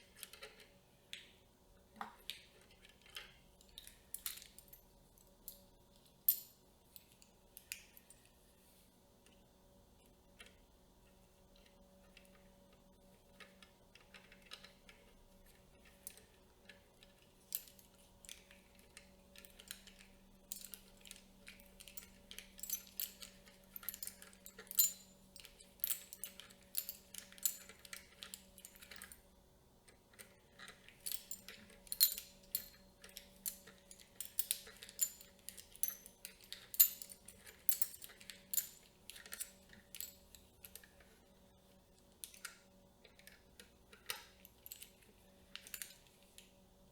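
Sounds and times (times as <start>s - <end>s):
small parts clicking and rattling: 0.0s - 1.3s, 2.0s - 8.4s, 10.0s - 46.9s.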